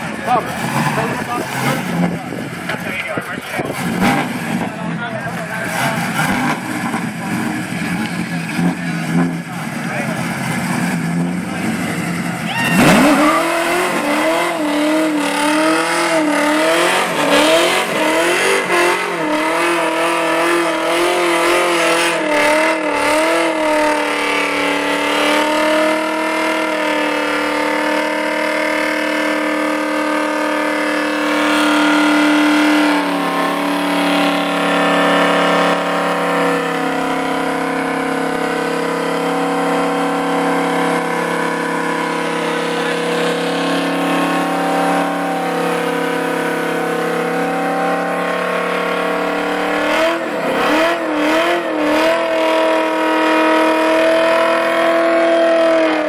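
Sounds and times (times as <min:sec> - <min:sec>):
car engine revving hard: 0:00.0 - 0:56.0
tires spinning: 0:00.0 - 0:56.0.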